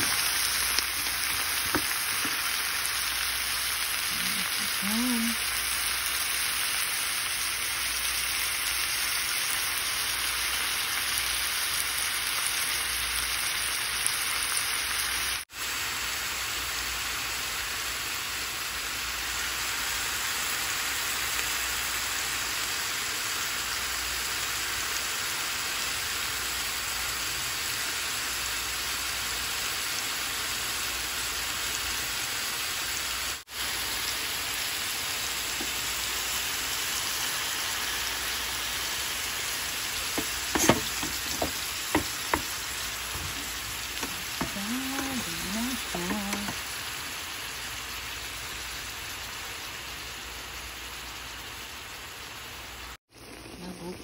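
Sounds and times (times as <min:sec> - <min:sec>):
mushrooms sizzling in a pan: 0:00.0 - 0:54.0.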